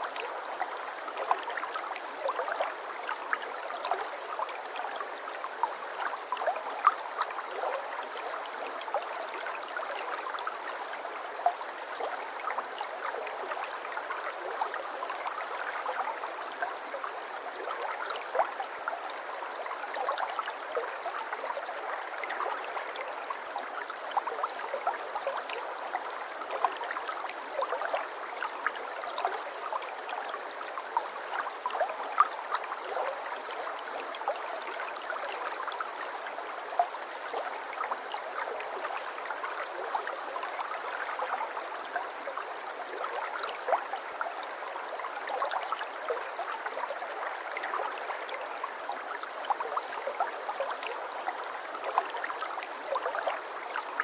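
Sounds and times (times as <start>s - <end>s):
brook water running over stones: 0.0s - 54.0s.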